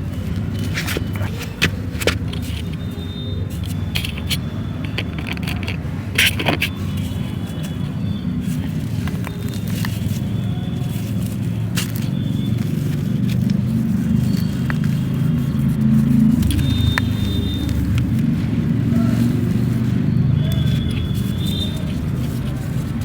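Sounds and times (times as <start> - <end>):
crumbling texture crunching by hand: 0.1 - 23.0.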